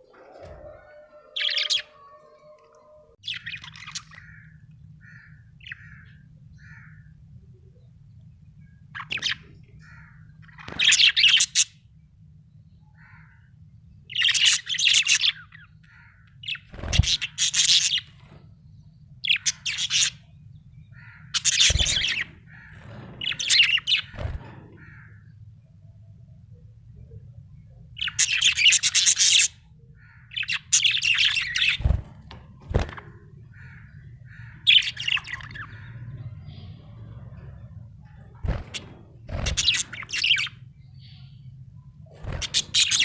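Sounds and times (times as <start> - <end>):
steady low hum: 2.6 - 43.0.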